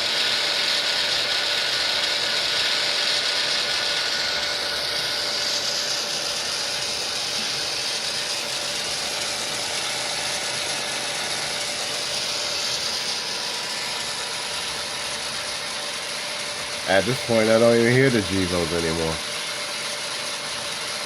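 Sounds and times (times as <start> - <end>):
hissy diesel engine drone: 0.0 - 21.0.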